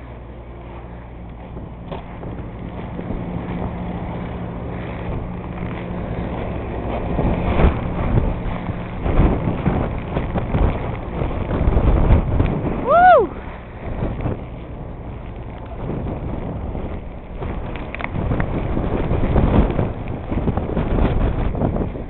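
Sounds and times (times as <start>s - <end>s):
low hum: 0.0s - 22.0s
wind buffeting microphone: 0.0s - 22.0s.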